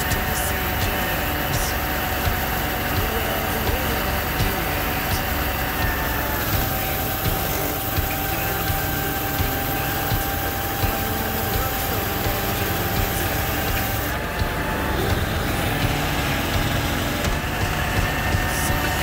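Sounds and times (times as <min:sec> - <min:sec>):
vehicle engine whining through water: 0:00.0 - 0:19.0.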